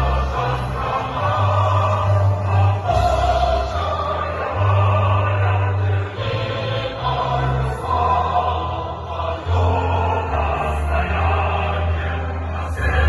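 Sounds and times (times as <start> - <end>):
choir singing slow anthem: 0.0 - 13.0.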